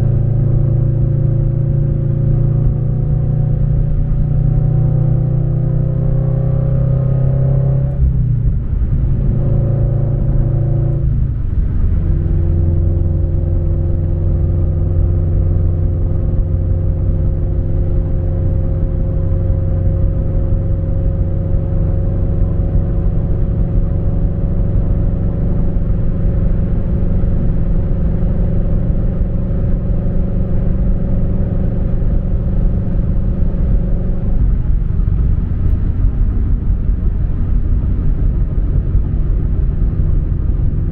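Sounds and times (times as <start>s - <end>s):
car engine rumble from cabin: 0.0s - 40.9s.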